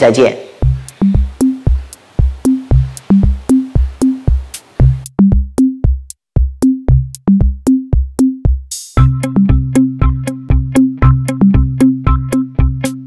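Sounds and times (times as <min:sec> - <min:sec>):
drum machine beat: 0:00.6 - 0:13.0.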